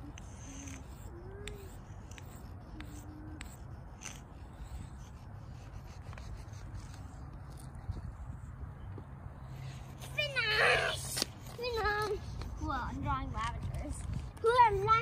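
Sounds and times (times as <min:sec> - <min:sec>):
chalk scratching on asphalt: 0:00.0 - 0:08.6, 0:09.4 - 0:15.0.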